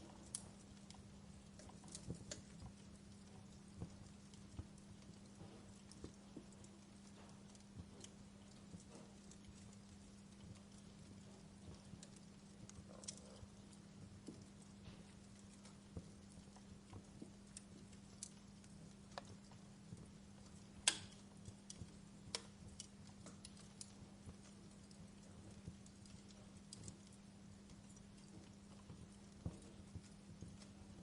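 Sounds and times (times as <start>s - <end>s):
faint low hum: 0.0s - 31.0s
log fire crackling: 0.0s - 31.0s.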